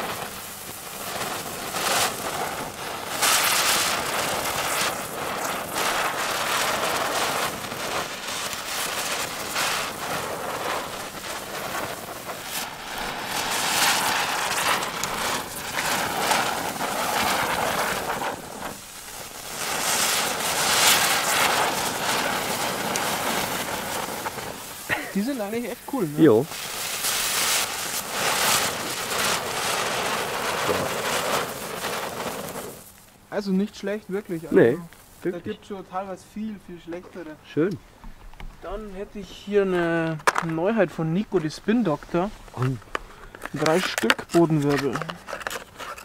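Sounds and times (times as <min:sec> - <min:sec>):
spinner fireworks sputtering hiss: 0:00.0 - 0:46.0.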